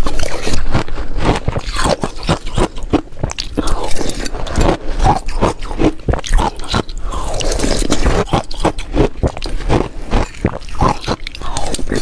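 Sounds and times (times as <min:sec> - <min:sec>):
ice being chewed: 0:00.0 - 0:12.0.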